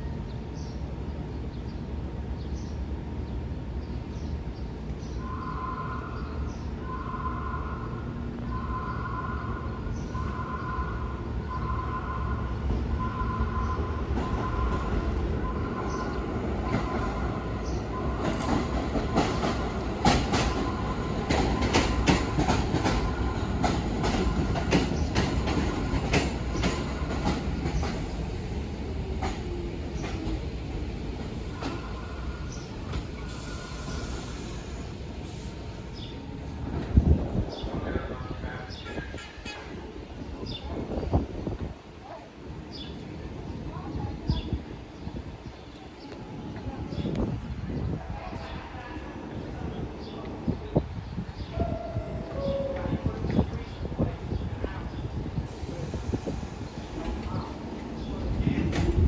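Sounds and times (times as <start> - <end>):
subway train rumbling: 0.0 - 59.0.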